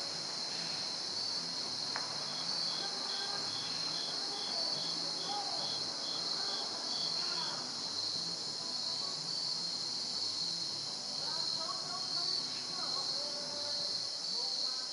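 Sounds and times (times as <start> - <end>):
insect chirping: 0.0 - 14.9
insects trilling: 0.0 - 14.9.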